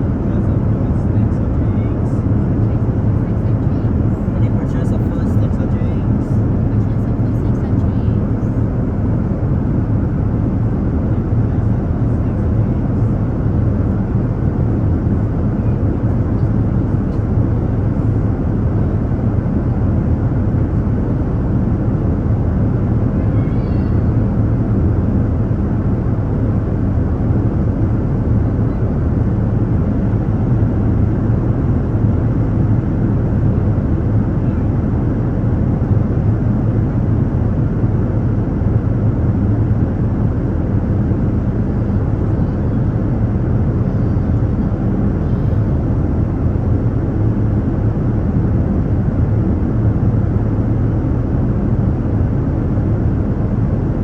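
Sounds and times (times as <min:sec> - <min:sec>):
airliner cabin engine roar: 0:00.0 - 0:54.0.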